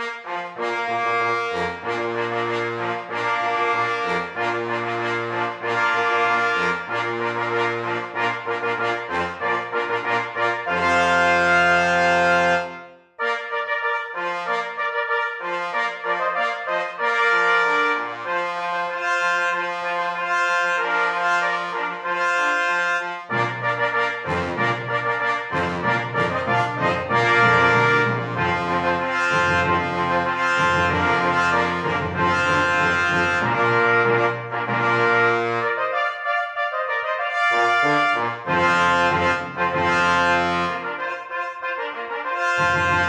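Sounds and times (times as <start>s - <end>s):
brass music: 0.0s - 43.0s.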